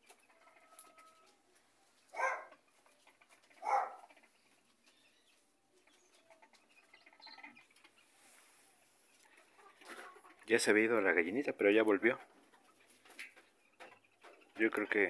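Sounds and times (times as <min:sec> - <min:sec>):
chickens clucking and chirping: 0:00.0 - 0:15.0.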